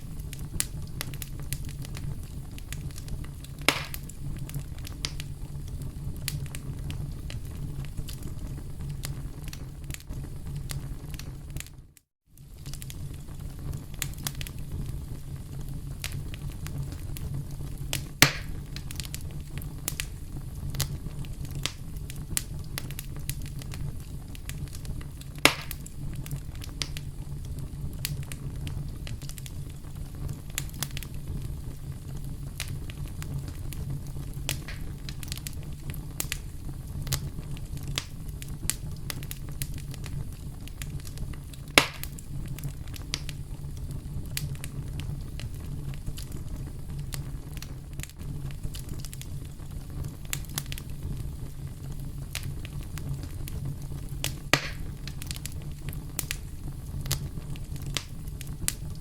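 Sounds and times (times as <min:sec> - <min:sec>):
burning wood popping: 0:00.0 - 0:11.8, 0:12.4 - 0:59.0
campfire crackling: 0:00.0 - 0:59.0.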